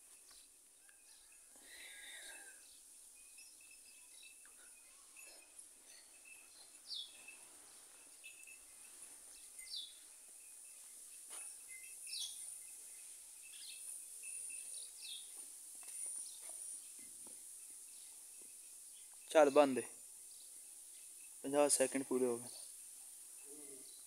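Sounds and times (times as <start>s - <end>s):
faint bird chirps: 0.3s - 19.4s, 23.4s - 24.0s
steady high hiss: 1.6s - 24.0s.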